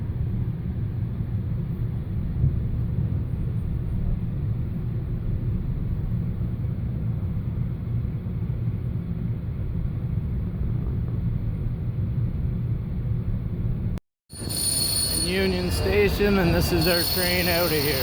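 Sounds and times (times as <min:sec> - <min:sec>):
moving train rumble: 0:00.0 - 0:18.0.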